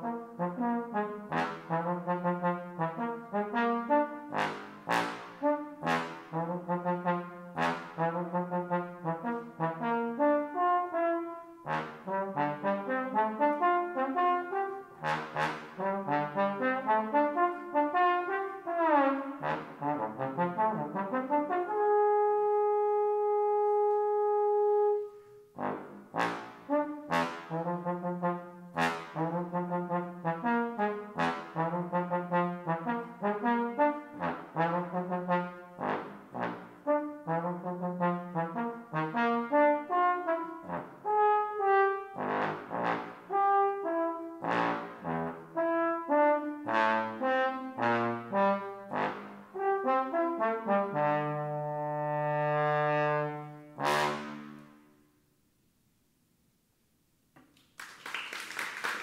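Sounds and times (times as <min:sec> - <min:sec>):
bass trombone playing: 0:00.0 - 0:54.8.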